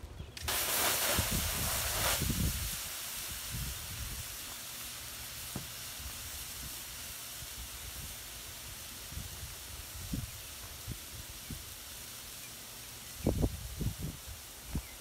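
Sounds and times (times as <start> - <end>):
smoking plastic hiss: 0.4 - 15.0
extinguisher spraying hiss: 0.5 - 15.0.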